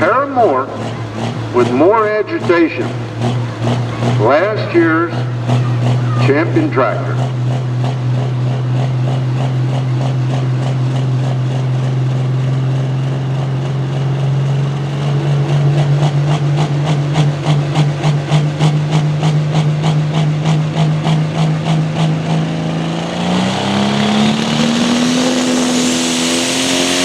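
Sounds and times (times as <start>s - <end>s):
tractor diesel engine revving: 0.0s - 27.0s.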